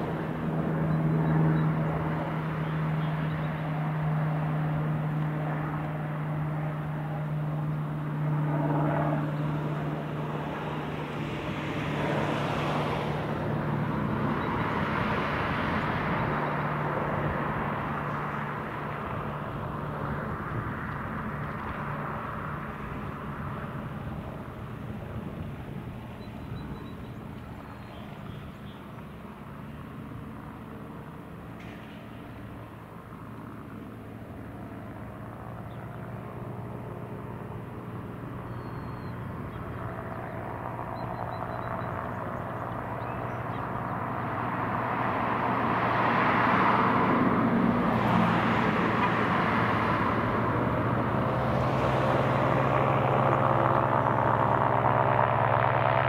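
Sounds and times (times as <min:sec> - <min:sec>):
propeller plane engines droning: 0:00.0 - 0:56.0.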